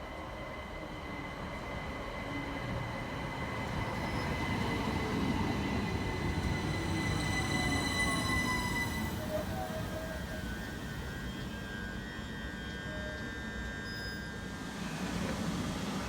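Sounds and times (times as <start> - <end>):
train passing with high whine: 0.0 - 16.0.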